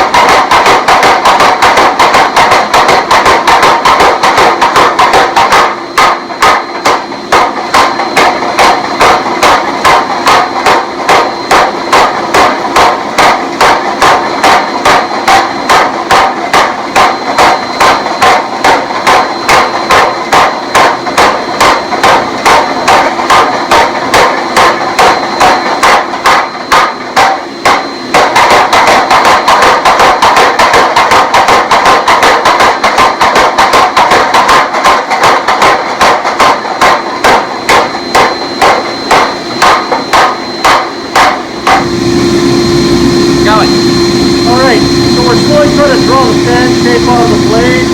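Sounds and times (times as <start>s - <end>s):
hammer striking hot steel: 0.0s - 47.9s.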